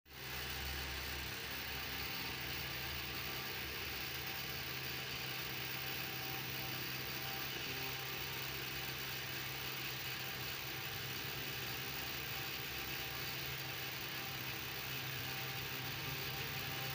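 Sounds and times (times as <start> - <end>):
low hum with hiss: 0.1 - 16.9.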